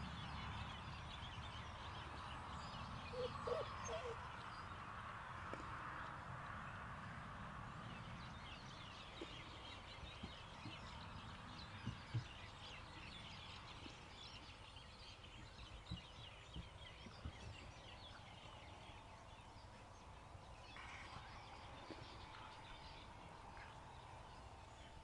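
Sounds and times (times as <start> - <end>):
birds chirping: 0.0 - 6.9, 7.7 - 25.0.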